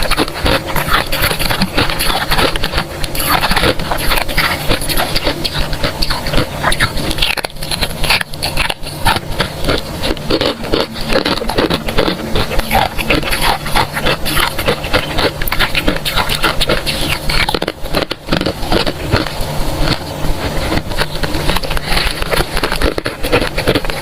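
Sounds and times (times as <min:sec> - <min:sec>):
crunching of freezer frost: 0:00.0 - 0:24.0.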